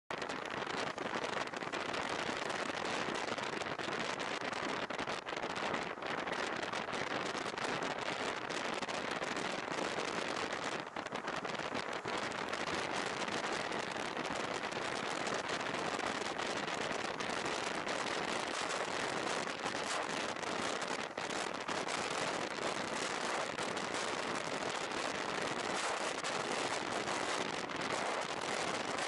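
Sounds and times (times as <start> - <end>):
microphone crackling: 0.2 - 29.0
rushing wind: 0.2 - 29.0.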